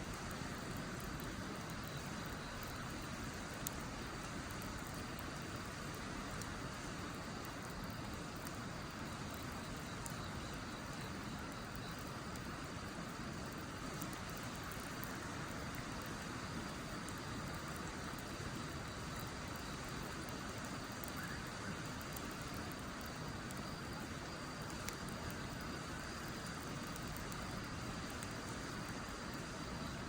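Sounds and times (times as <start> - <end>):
fire crackles: 0.0 - 30.0
wood fire hissing: 0.0 - 30.0.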